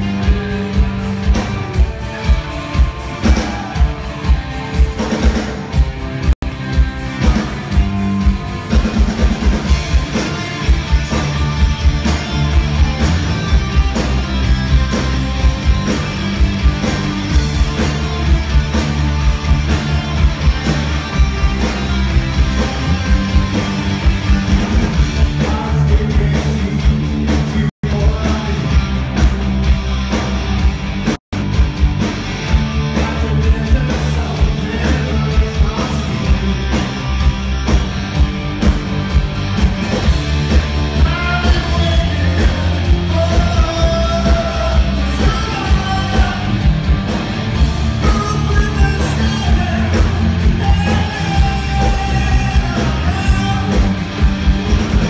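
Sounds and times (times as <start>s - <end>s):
bass guitar: 0.0s - 55.0s
drums: 0.0s - 55.0s
electric guitar: 0.0s - 55.0s.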